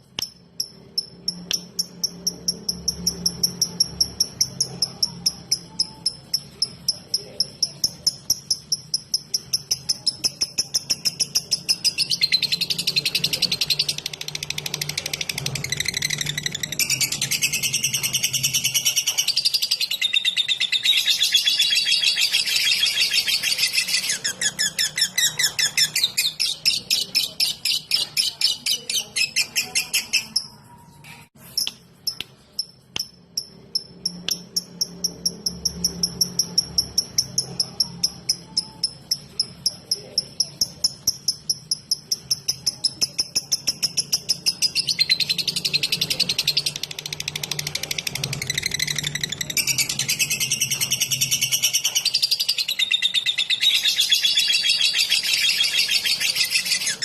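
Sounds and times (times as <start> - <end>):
lovebird chirping song: 0.0 - 57.0.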